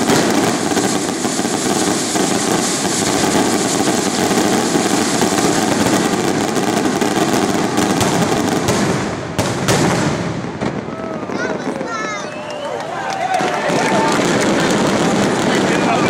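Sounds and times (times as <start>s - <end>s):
sharp firework bangs: 0.0s - 12.4s, 13.4s - 16.0s
fireworks crackling hiss: 0.0s - 12.6s, 13.4s - 16.0s.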